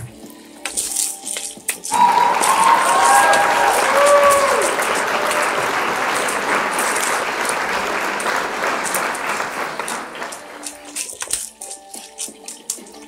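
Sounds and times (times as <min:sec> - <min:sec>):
wooden spoon stirring: 0:00.0 - 0:07.8, 0:09.8 - 0:13.0.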